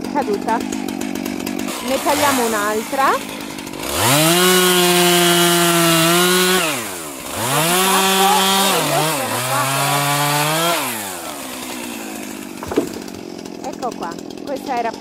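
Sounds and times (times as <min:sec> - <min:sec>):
chainsaw cutting tree trunk: 0:00.0 - 0:15.0.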